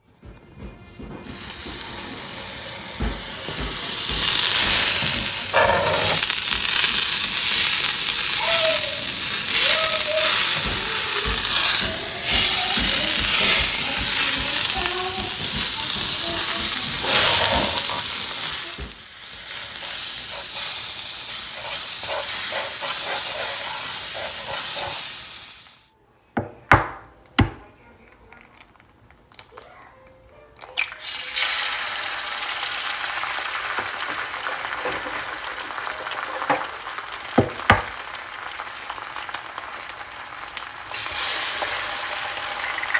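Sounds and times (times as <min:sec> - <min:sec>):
eggs frying sizzle: 0:01.2 - 0:25.9, 0:30.9 - 0:42.9.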